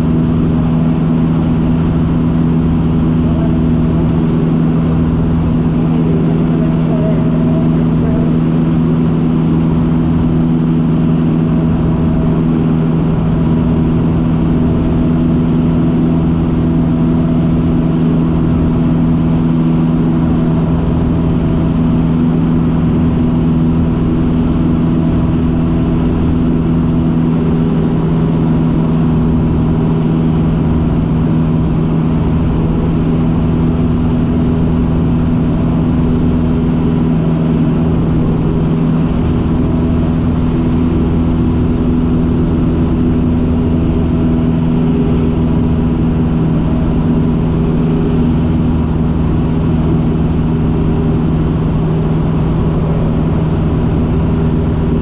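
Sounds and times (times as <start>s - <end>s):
light aircraft engine droning: 0.0s - 55.0s.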